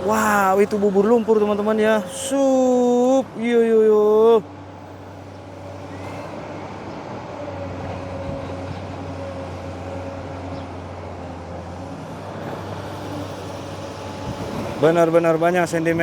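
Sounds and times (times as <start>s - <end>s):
heavy diesel engine humming: 0.0s - 16.0s.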